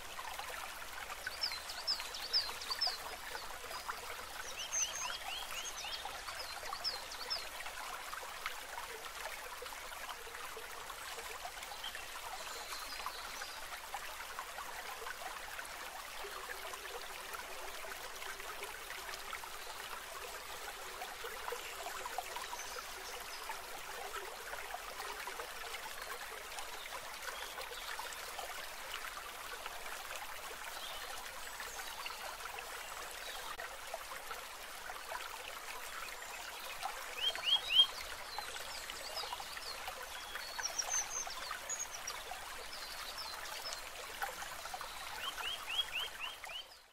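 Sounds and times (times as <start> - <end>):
water trickling and babbling: 0.0 - 46.9.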